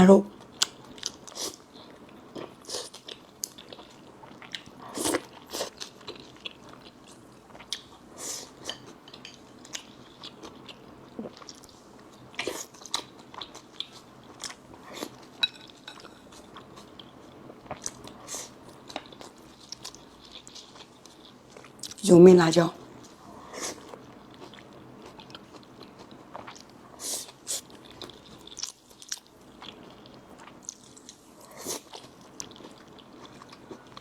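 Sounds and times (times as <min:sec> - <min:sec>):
person chewing crunchy food: 0:00.4 - 0:22.0, 0:23.0 - 0:34.0.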